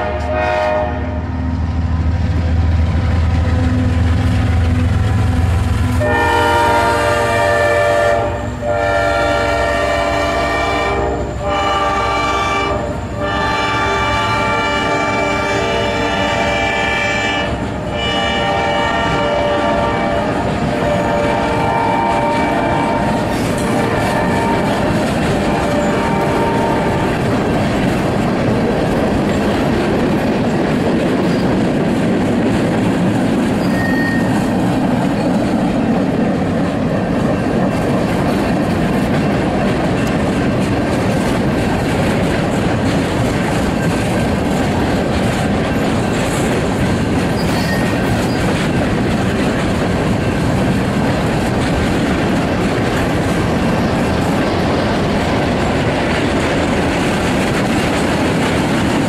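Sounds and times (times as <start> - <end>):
freight train wheels clacking: 0.0 - 59.0.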